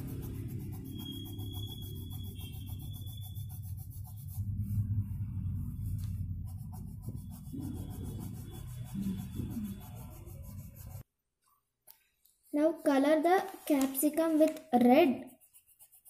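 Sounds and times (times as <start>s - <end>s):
pencil rubbing on paper: 0.0s - 11.1s, 12.4s - 16.0s.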